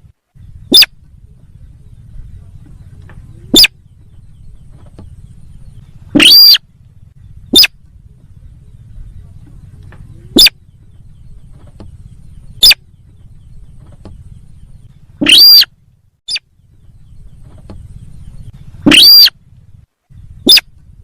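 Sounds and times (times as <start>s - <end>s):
bird calls: 0.0s - 21.0s
low steady hum: 0.0s - 21.0s.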